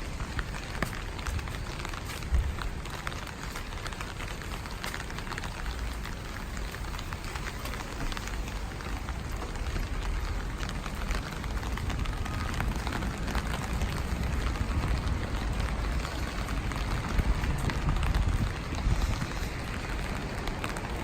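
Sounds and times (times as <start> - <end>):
raindrops ticking: 0.0 - 21.0.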